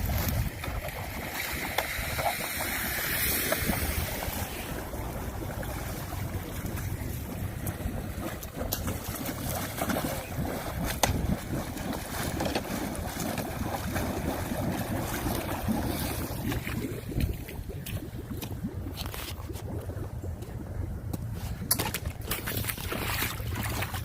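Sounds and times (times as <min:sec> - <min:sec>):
floodwater rushing into storm drain: 0:00.0 - 0:24.0
splashes and knocks: 0:00.0 - 0:24.0
wind buffeting microphone: 0:00.0 - 0:24.0.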